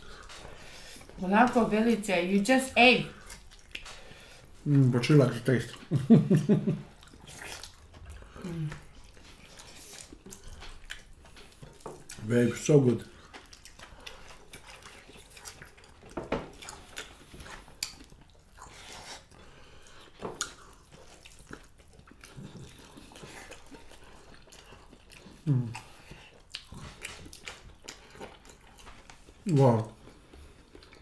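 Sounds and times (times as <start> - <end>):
chewing and lip smacks: 0.0 - 1.6, 3.1 - 4.7, 5.3 - 6.0, 6.7 - 31.0.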